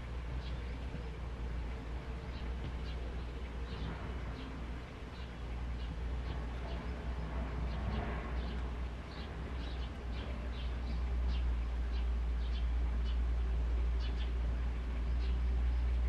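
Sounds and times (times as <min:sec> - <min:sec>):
low rumble: 0:00.0 - 0:16.0
small birds chirping: 0:00.0 - 0:16.0.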